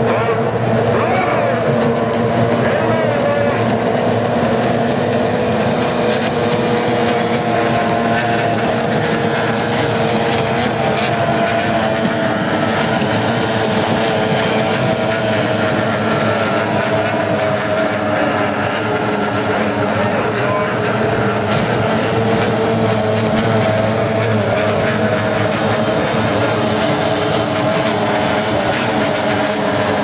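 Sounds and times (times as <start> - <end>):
outboard engines whining: 0.0 - 30.0.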